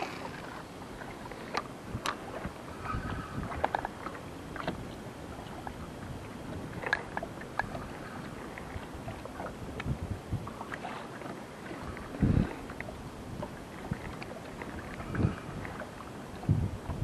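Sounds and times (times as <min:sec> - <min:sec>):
light wind: 0:00.0 - 0:17.0
water lapping against boat hull: 0:00.0 - 0:17.0.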